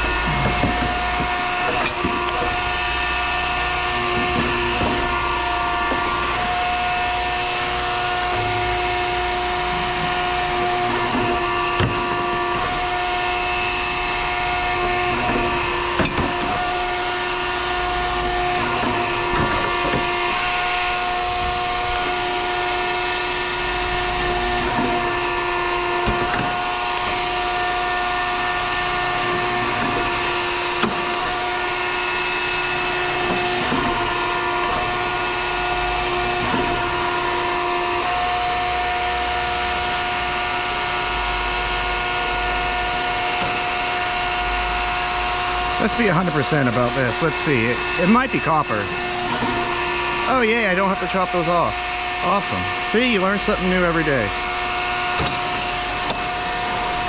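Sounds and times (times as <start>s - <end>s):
machine whine: 0.0s - 57.0s.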